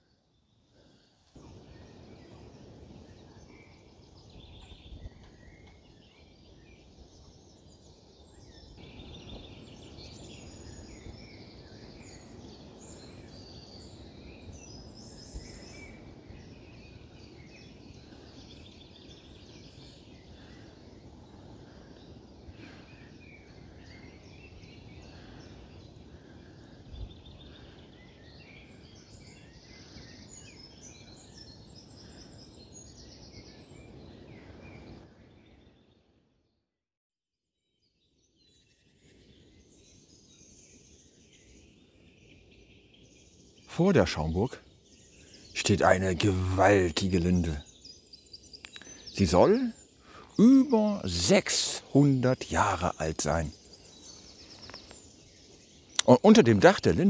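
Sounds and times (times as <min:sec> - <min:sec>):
songbirds singing: 0:00.0 - 0:36.6, 0:37.6 - 0:57.0.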